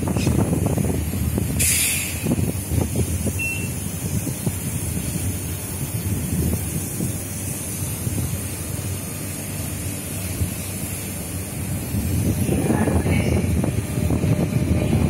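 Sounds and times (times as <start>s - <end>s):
compressed air hiss: 0.0s - 14.0s
electric train low rumble: 0.0s - 15.0s.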